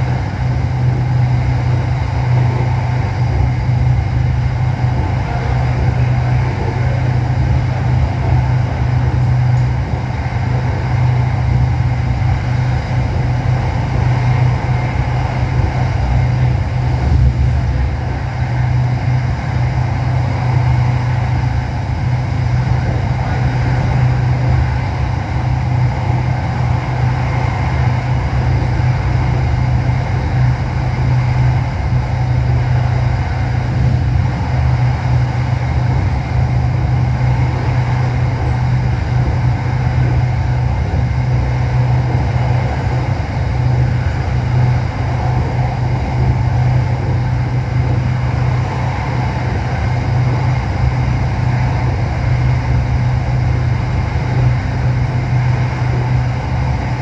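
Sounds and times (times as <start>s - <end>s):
train cabin low hum: 0.0s - 57.0s
train rushing noise: 0.0s - 57.0s.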